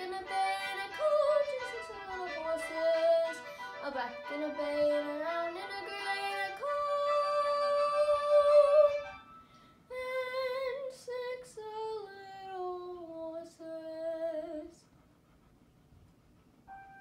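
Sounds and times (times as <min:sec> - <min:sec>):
girl singing: 0:00.0 - 0:09.2, 0:09.9 - 0:14.8.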